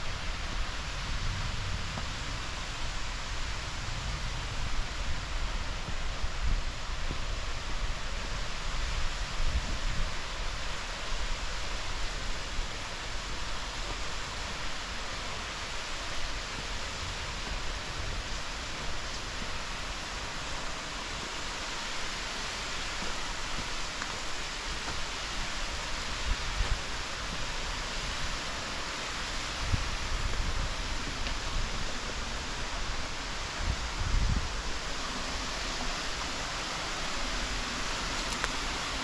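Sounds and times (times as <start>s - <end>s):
rushing river water: 0.0s - 39.0s.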